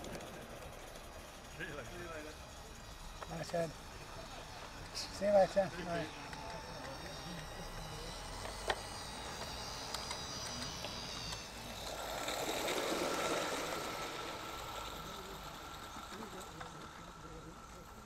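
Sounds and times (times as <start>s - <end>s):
model train running: 0.0s - 18.0s.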